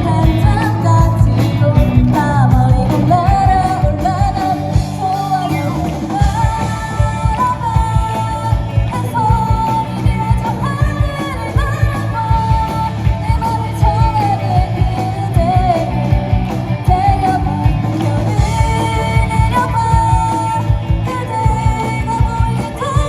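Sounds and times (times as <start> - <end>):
person singing lead vocal: 0.0 - 23.0
pop-rock band playing: 0.0 - 23.0.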